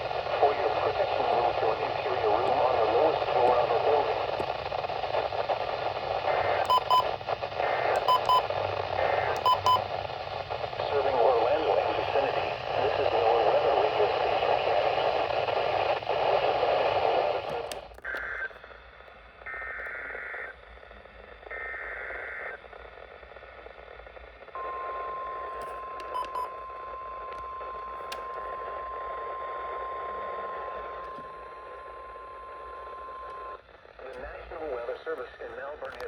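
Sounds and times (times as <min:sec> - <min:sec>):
radio hiss: 0:00.0 - 0:36.0.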